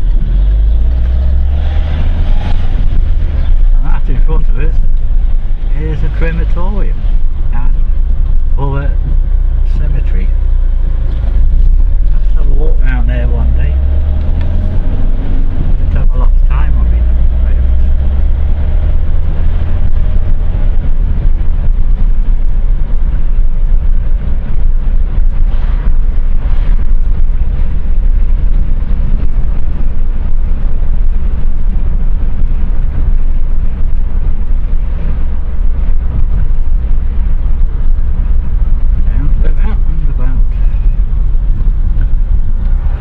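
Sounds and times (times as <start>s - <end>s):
car road and engine noise: 0.0s - 43.0s.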